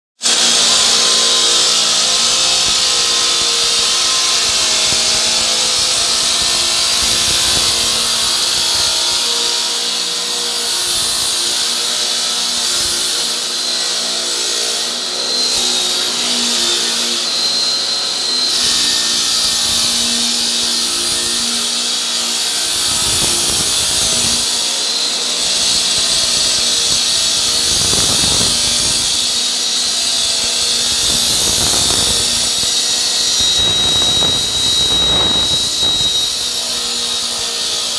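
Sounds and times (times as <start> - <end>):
floor saw cutting concrete: 0.2 - 37.9.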